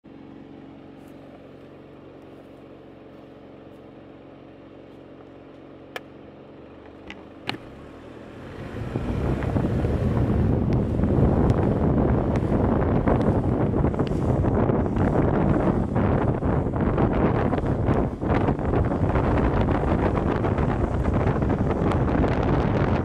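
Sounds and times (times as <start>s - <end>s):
car engine idling: 0.1s - 23.0s
wind and road noise: 0.1s - 23.0s.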